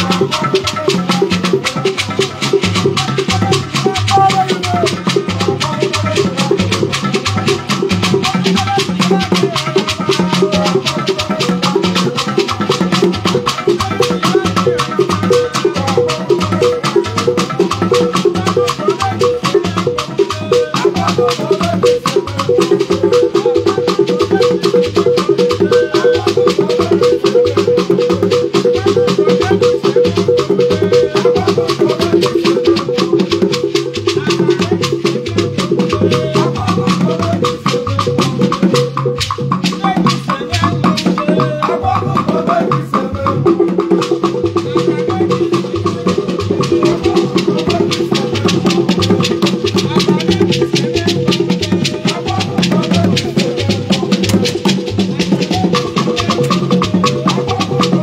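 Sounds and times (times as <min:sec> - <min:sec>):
drum strikes: 0:00.0 - 0:58.0.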